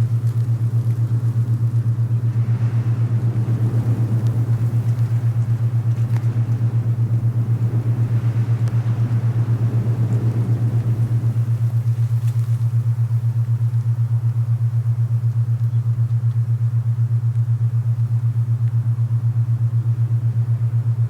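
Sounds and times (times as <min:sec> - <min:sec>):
low pulsing binaural tone: 0:00.0 - 0:21.0
soft wind: 0:00.0 - 0:21.0.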